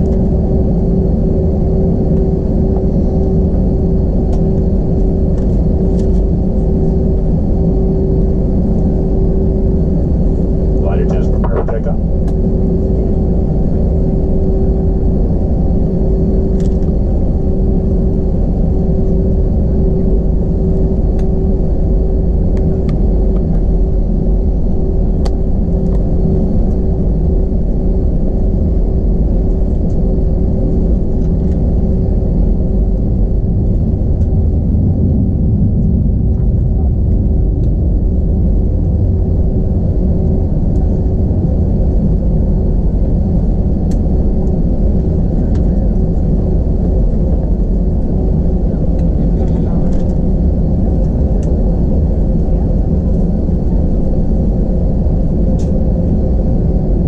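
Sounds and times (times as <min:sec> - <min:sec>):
aircraft cabin low rumble: 0:00.0 - 0:57.0
constant engine hum: 0:00.0 - 0:57.0.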